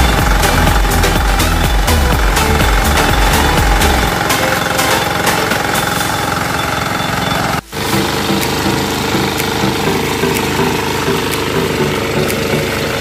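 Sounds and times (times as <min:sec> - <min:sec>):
power tiller engine running: 0:00.0 - 0:13.0.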